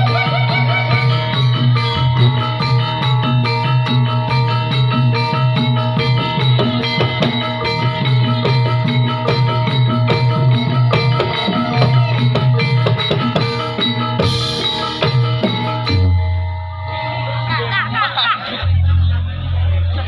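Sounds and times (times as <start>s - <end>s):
drums: 0.0s - 20.0s
tuned percussion playing: 0.0s - 20.0s.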